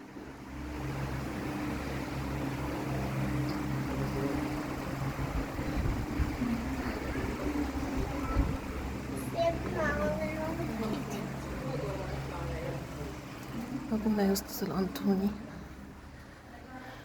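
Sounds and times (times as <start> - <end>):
low motor hum: 0.0 - 16.7.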